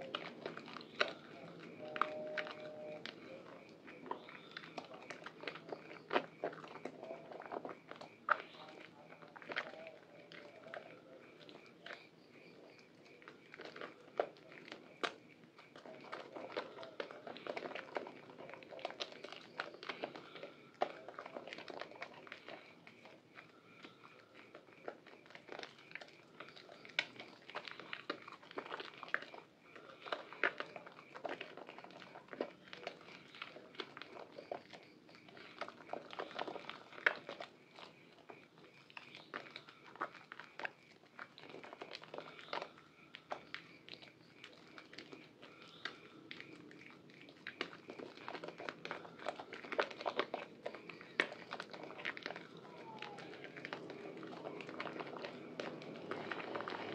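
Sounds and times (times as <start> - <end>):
foam crackling: 0.0 - 56.9
hands squelching soap lather: 0.0 - 56.9.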